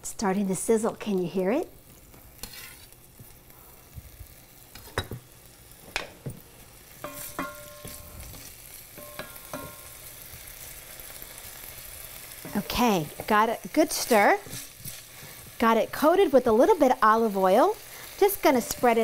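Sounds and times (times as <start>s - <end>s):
meat sizzling in oil: 1.0s - 19.0s.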